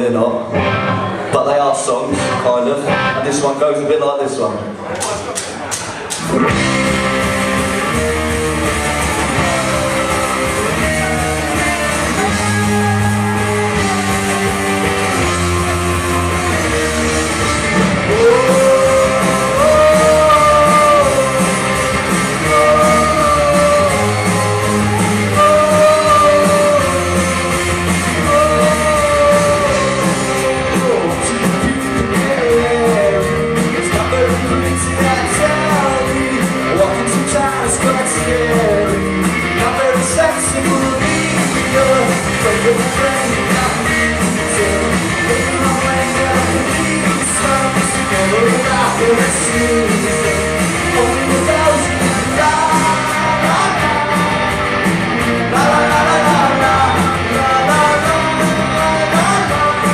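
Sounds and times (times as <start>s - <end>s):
live rock band playing: 0.0s - 3.9s, 4.6s - 59.9s
person singing: 6.3s - 59.9s.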